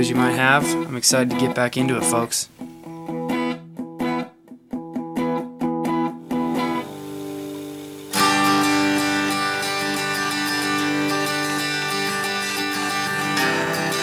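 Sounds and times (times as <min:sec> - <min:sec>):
guitar picked notes and chords: 0:00.0 - 0:14.0.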